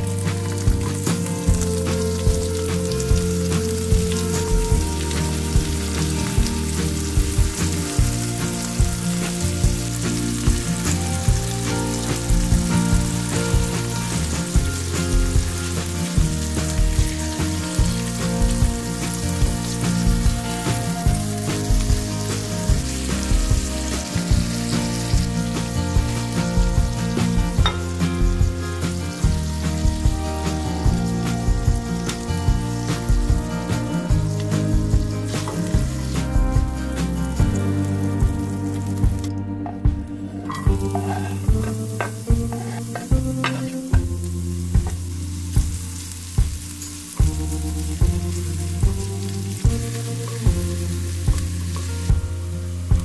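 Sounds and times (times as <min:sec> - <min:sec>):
background music with steady beat: 0:00.0 - 0:53.0
chicken sizzling in frying pan: 0:00.0 - 0:53.0.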